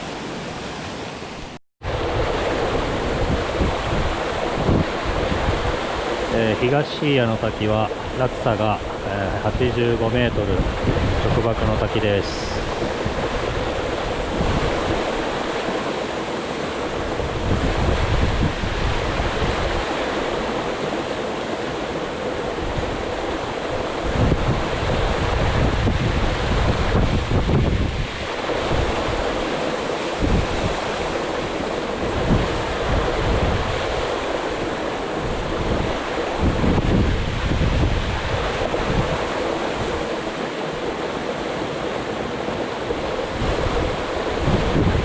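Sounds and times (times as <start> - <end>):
waterfall roaring: 0.0 - 45.0
wind buffeting microphone: 1.8 - 45.0.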